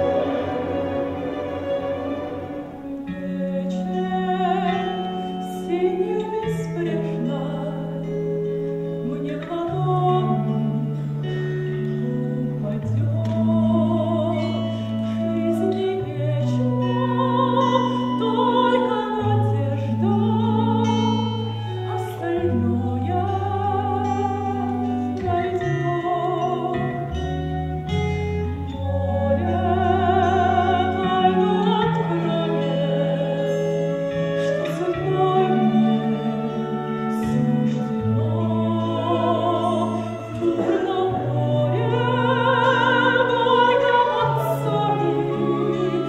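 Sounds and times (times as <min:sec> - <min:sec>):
orchestral accompaniment: 0:00.0 - 0:46.0
woman singing operatically: 0:02.2 - 0:08.2, 0:09.0 - 0:46.0.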